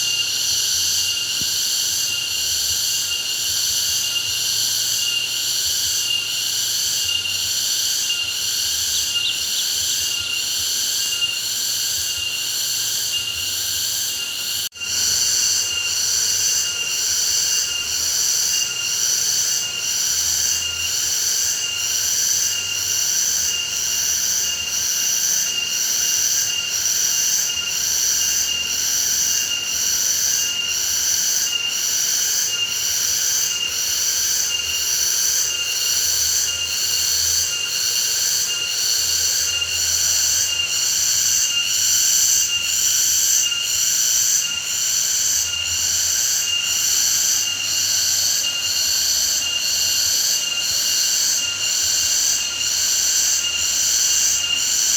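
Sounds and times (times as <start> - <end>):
insects buzzing in chorus: 0.0 - 54.9.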